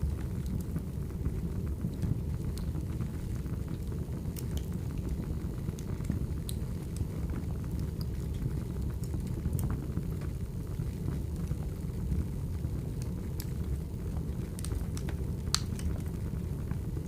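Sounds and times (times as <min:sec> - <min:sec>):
firewood crackling and popping: 0:00.0 - 0:17.0
low rush of flame: 0:00.0 - 0:17.0.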